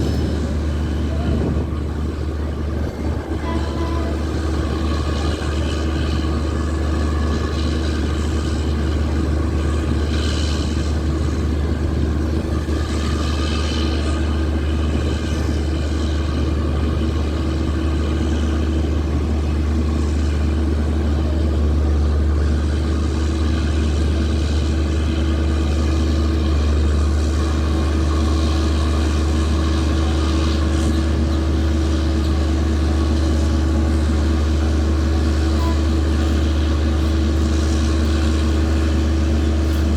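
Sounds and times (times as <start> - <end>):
diesel generator droning: 0.0 - 39.9.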